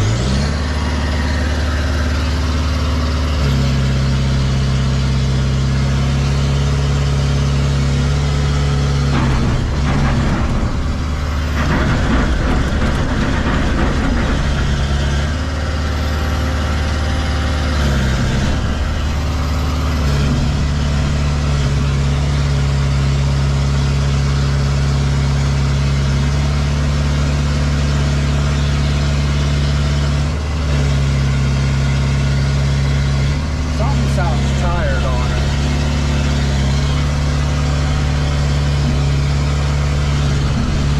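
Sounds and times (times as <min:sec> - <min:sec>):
machine engine idling: 0:00.0 - 0:06.2, 0:07.3 - 0:40.9.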